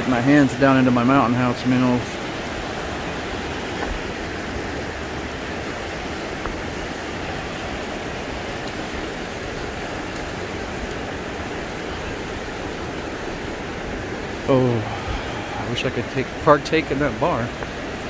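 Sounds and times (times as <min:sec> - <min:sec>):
water rushing over rapids: 0:00.0 - 0:18.0.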